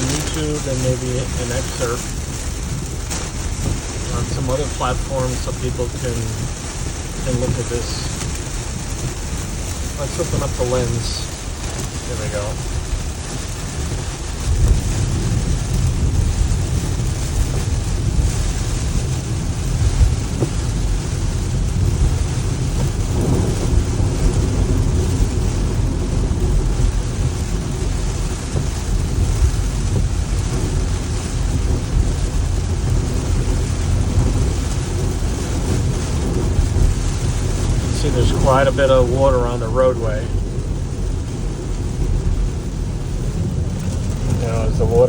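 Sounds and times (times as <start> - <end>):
heavy rain: 0.0 - 45.0
tire spray on wet road: 0.0 - 45.0
water drumming on car underbody: 0.0 - 45.0.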